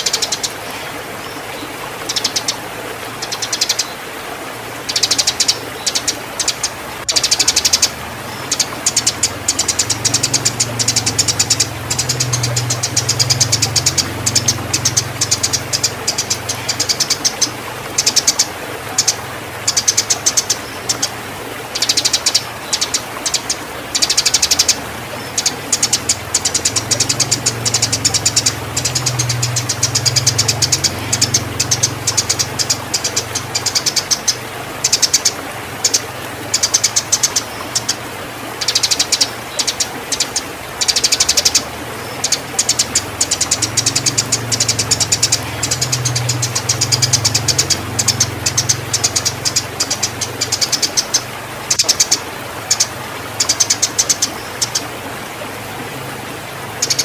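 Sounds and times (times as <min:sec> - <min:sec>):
sparrow chirping rapidly: 0:00.0 - 0:02.6, 0:03.2 - 0:04.0, 0:04.9 - 0:21.1, 0:21.8 - 0:38.0, 0:38.6 - 0:54.8, 0:56.8 - 0:57.0.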